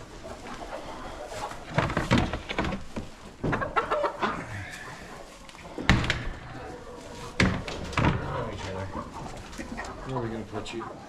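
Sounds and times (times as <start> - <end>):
chickens squawking and clucking: 0.0 - 11.0.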